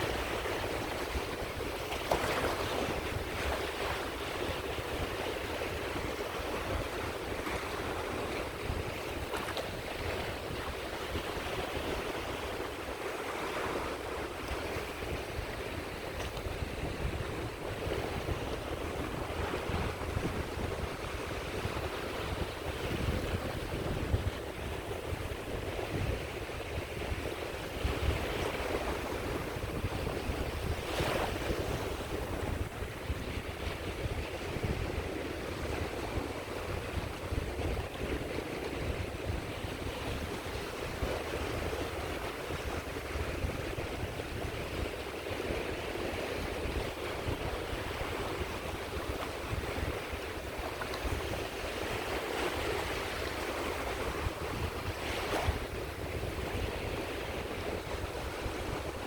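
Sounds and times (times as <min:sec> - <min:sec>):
sea waves washing on beach: 0:00.0 - 0:59.0
wind rumble on microphone: 0:00.0 - 0:59.0.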